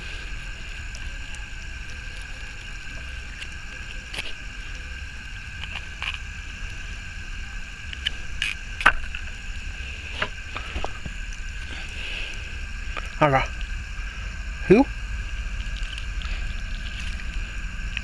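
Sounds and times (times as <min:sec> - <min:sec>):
high ringing night chorus: 0:00.0 - 0:18.0.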